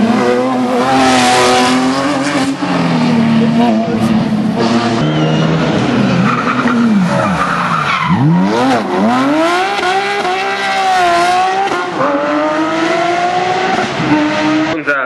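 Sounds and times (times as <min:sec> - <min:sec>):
rally car engine revving hard: 0:00.0 - 0:07.4, 0:08.0 - 0:15.0.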